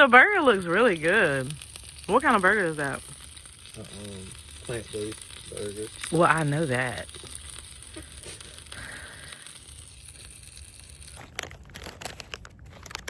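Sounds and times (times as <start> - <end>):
patty sizzling in a pot: 0.0 - 13.0
sharp clicks and crackles: 0.0 - 13.0.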